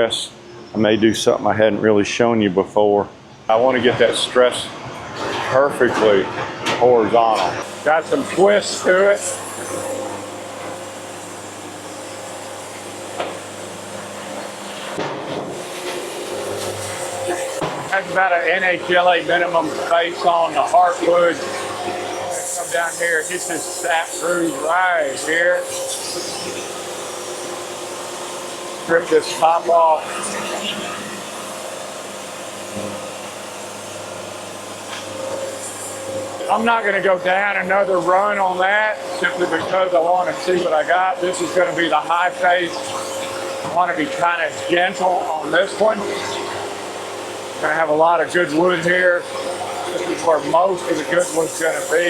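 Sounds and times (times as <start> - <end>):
band sawmill humming: 3.5 - 52.0.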